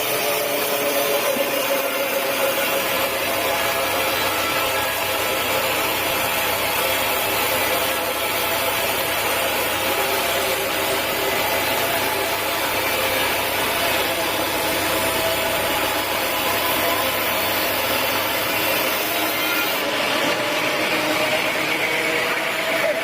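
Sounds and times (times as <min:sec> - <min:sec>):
saw cutting through log: 0:00.0 - 0:23.0.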